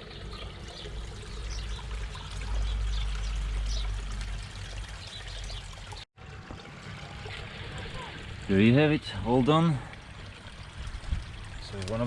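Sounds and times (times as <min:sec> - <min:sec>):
water trickling into pond: 0:00.0 - 0:12.0.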